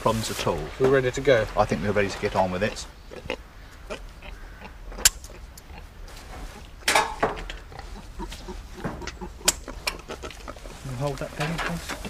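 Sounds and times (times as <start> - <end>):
pigs grunting: 1.6 - 6.8, 7.4 - 12.0.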